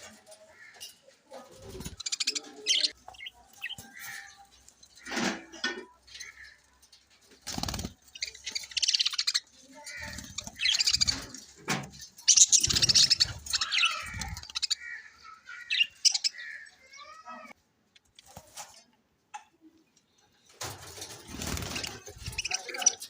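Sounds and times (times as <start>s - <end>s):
budgerigars chirping and chattering: 0.0s - 17.4s, 20.8s - 23.0s.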